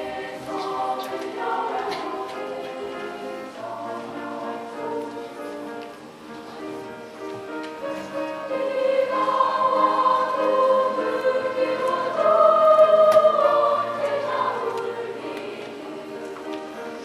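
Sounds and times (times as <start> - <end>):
girls choir singing held notes: 0.0 - 6.0, 7.0 - 17.0.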